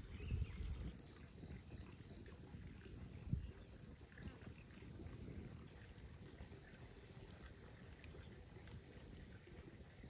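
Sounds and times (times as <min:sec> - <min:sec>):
water boiling: 0:00.0 - 0:10.0.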